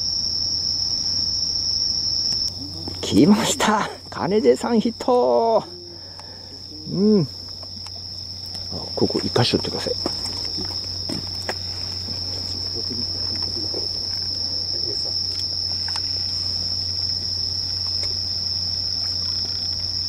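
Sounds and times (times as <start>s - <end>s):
crickets trilling: 0.0s - 20.0s
low steady hum: 0.0s - 20.0s.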